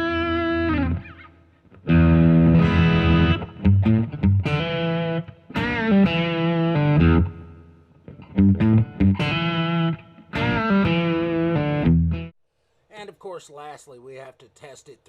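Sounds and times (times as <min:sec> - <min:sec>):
distorted electric guitar chords: 0:00.0 - 0:12.3.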